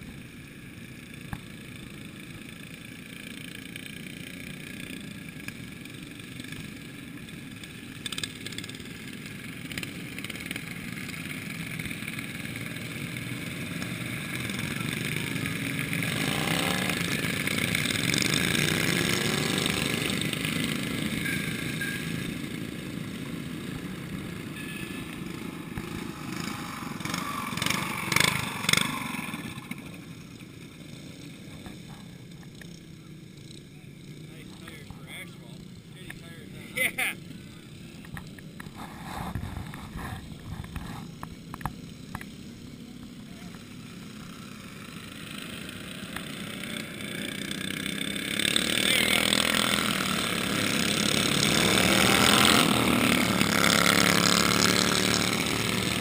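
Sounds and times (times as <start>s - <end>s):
racing lawn tractor engines: 0.0s - 56.0s.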